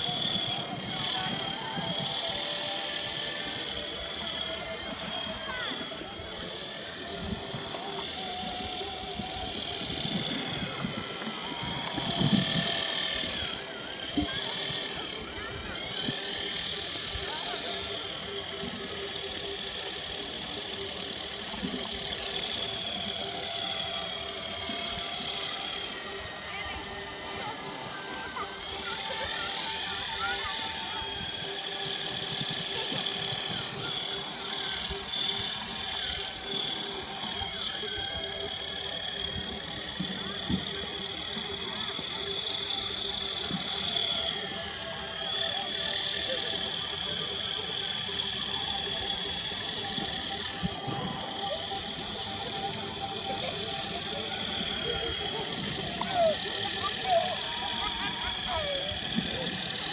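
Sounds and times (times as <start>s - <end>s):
electric motors high-pitched whine: 0.0s - 59.9s.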